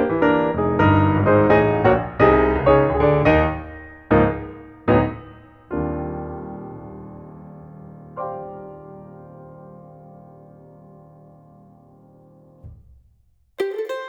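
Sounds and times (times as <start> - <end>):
piano music: 0.0 - 12.6.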